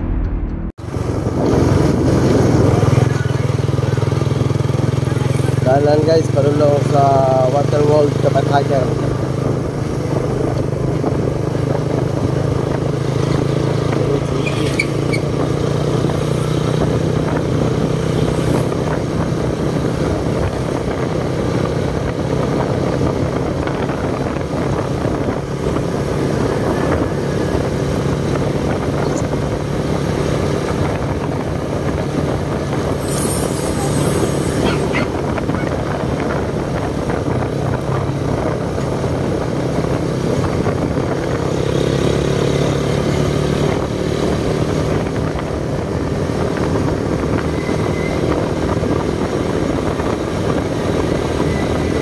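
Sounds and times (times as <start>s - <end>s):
motorcycle engine running: 0.0s - 52.0s
tyre noise on road: 0.0s - 52.0s
wind noise: 0.0s - 52.0s.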